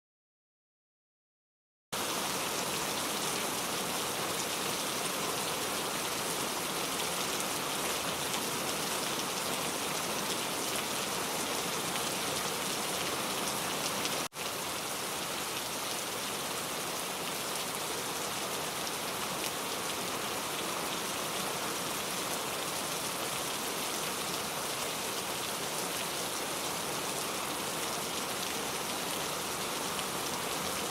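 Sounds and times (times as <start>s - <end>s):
heavy rain downpour: 2.0s - 30.9s.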